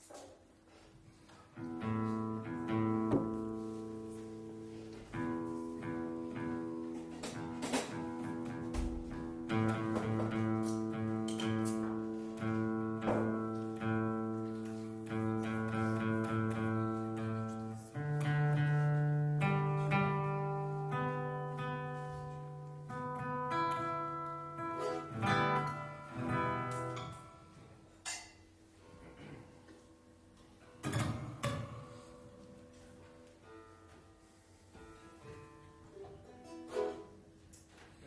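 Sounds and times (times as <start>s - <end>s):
plucked guitar: 1.6s - 28.3s, 30.6s - 34.0s, 34.7s - 37.5s.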